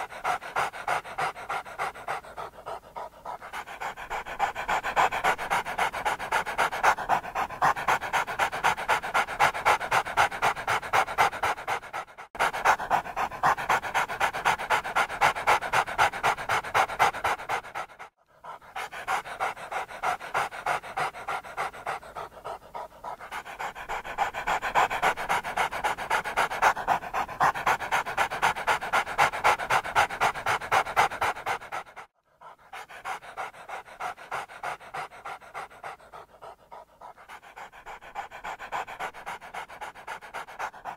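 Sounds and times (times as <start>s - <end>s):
dog panting: 0.0s - 40.9s.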